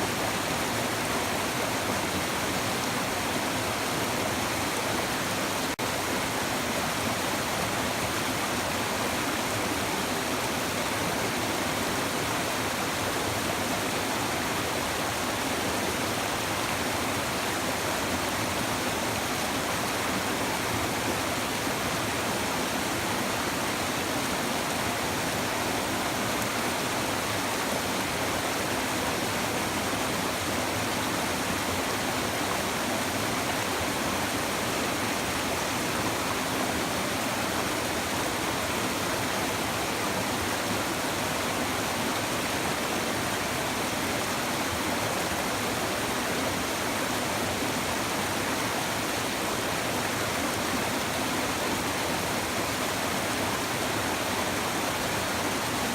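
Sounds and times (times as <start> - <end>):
river water babbling over stones: 0.0 - 55.9.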